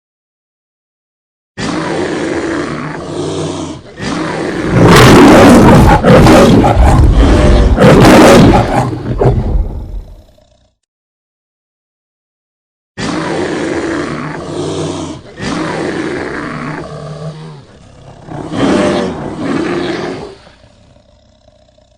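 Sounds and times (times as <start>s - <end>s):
lion roaring: 1.6s - 10.8s, 13.0s - 21.9s.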